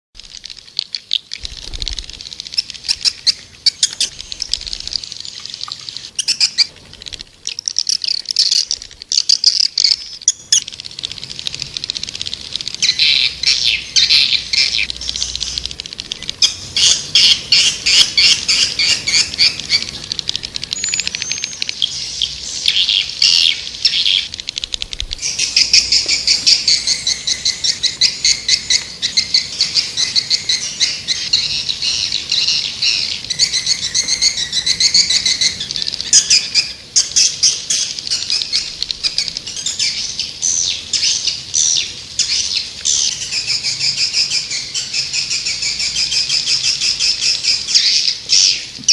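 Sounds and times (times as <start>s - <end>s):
swiftlets twittering chirps: 0.2s - 48.9s.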